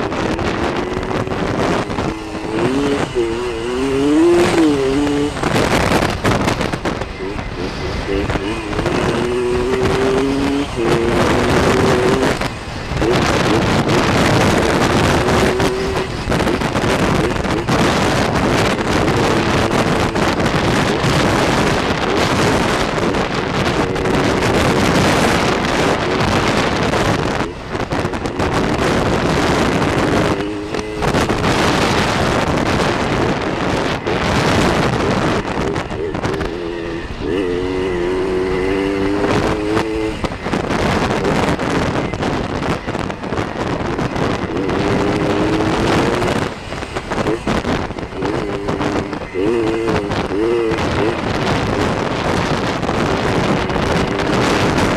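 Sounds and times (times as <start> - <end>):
dirt bike engine running: 0.0 - 54.9
wind buffeting on microphone: 0.0 - 54.9.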